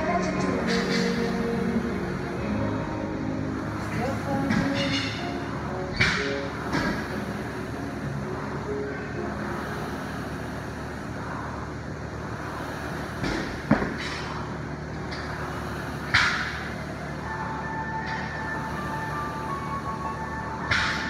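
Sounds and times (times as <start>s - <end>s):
gym hum: 0.0s - 21.0s.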